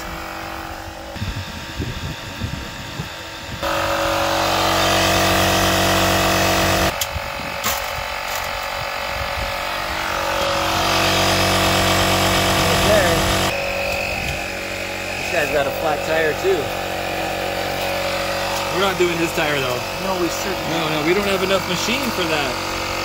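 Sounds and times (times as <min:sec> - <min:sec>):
air compressor motor straining: 0:00.0 - 0:23.0.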